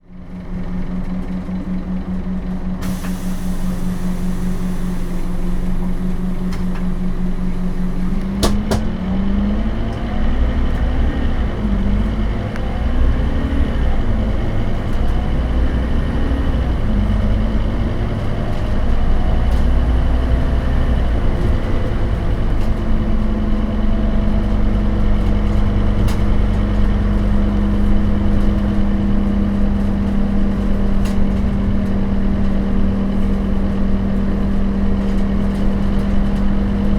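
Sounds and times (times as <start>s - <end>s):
bus engine running: 0.0s - 36.9s.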